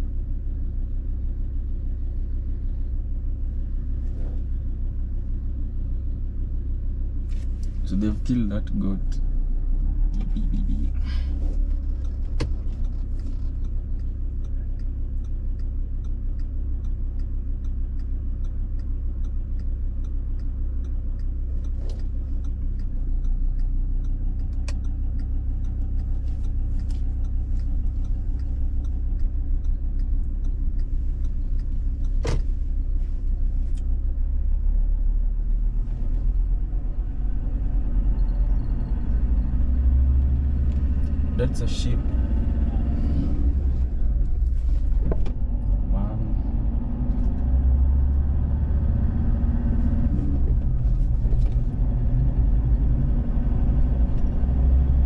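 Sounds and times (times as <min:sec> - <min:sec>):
vehicle engine and tyres rumbling: 0:00.0 - 0:55.0.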